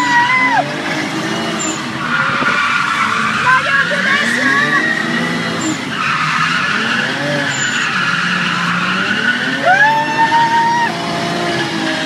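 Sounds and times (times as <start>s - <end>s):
car engines running hard: 0.0s - 12.0s
tyres squealing: 1.4s - 12.0s.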